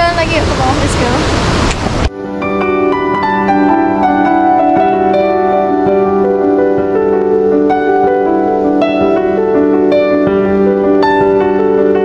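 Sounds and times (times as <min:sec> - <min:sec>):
piano music: 0:02.1 - 0:12.0.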